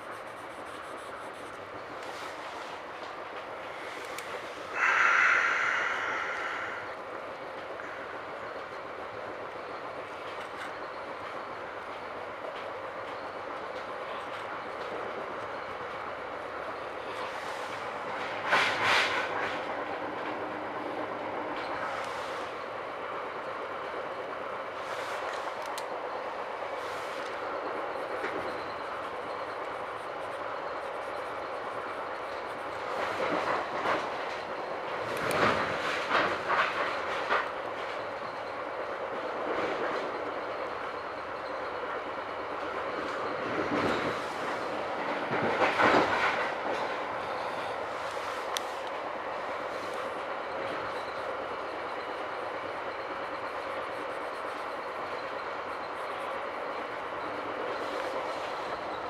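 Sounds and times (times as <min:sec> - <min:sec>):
train rumble and hiss: 0:00.0 - 0:59.0.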